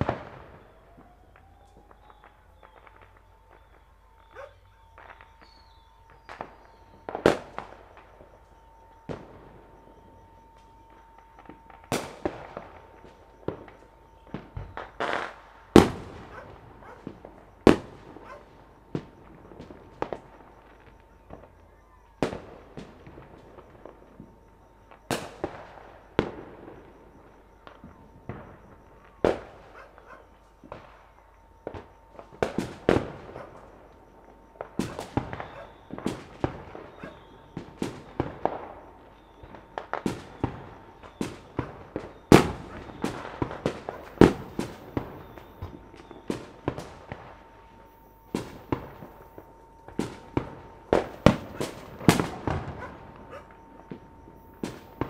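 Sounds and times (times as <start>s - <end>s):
fireworks and firecrackers banging: 0.0s - 55.0s.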